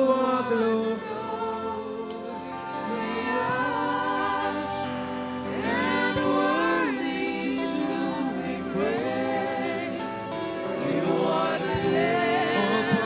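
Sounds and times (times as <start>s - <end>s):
sustained keyboard chords: 0.0s - 13.0s
voices singing gospel melody: 0.0s - 13.0s.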